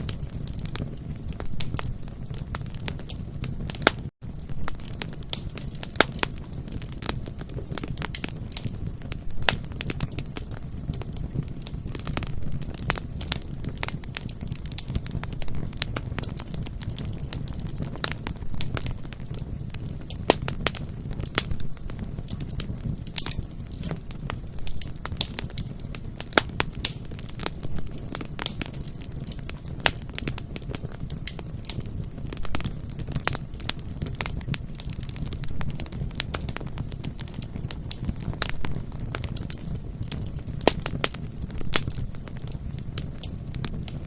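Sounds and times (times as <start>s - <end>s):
bonfire rumble: 0.0s - 44.0s
wood crackling and popping: 0.0s - 44.0s.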